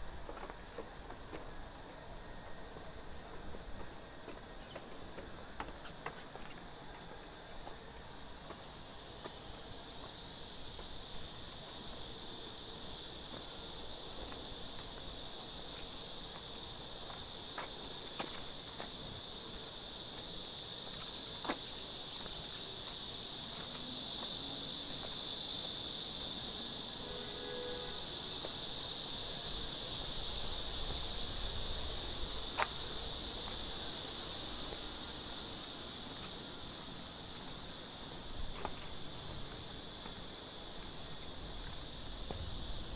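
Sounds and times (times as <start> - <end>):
cicadas singing: 0.0 - 42.9.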